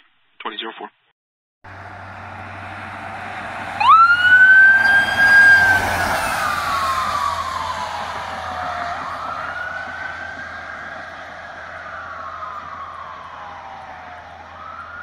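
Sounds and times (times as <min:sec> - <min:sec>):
ambulance siren: 0:01.7 - 0:15.0
vehicle road noise: 0:01.7 - 0:15.0.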